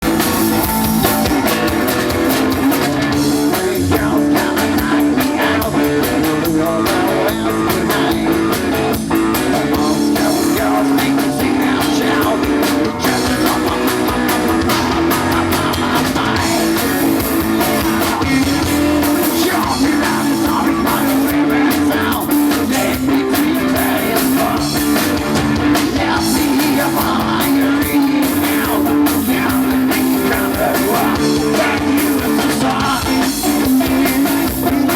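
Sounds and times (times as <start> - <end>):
drum kit: 0.0 - 34.9
electric guitar: 0.0 - 34.9.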